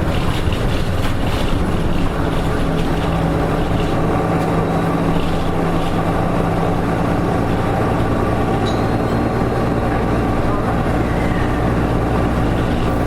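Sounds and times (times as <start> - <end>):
bus diesel engine running: 0.0 - 13.0
road and drivetrain noise: 0.0 - 13.0.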